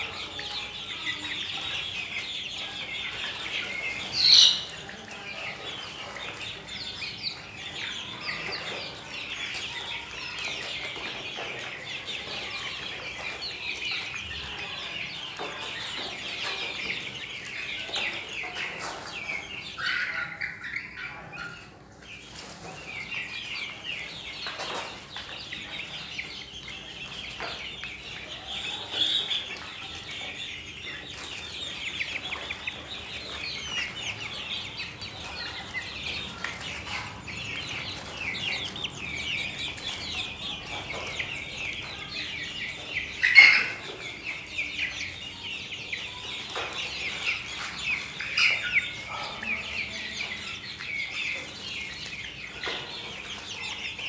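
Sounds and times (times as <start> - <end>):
young chickens cheeping and clucking: 0.0 - 54.0.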